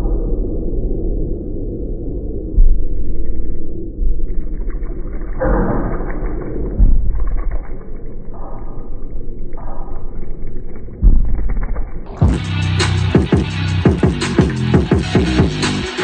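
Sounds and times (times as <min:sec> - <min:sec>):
muffled bass rumbling from speaker: 0:00.0 - 0:15.9.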